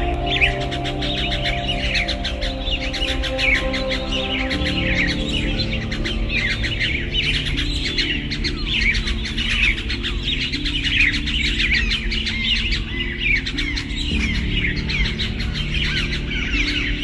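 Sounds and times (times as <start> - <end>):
music with low held notes: 0.0 - 17.0
small birds chirping: 0.0 - 17.0.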